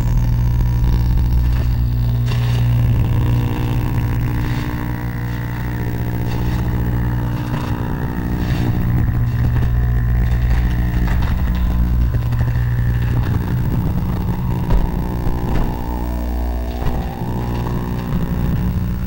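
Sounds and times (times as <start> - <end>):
crackling noise bursts: 0.0 - 19.0
low droning electronic hum: 0.0 - 19.0.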